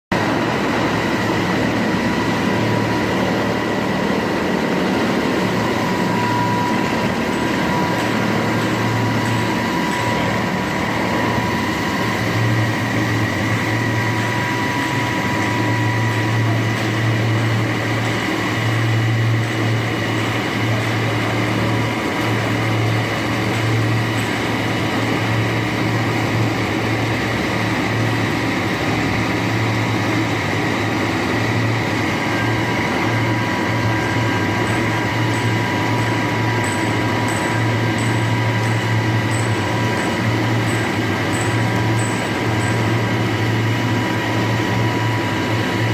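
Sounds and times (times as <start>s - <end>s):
concrete floor grinder running: 0.1s - 45.9s.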